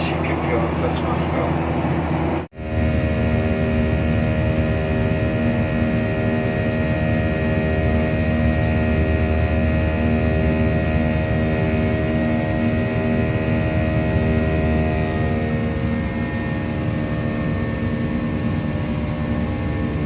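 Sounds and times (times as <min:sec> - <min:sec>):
airliner cabin drone: 0:00.0 - 0:20.0
steady tones: 0:00.0 - 0:20.0.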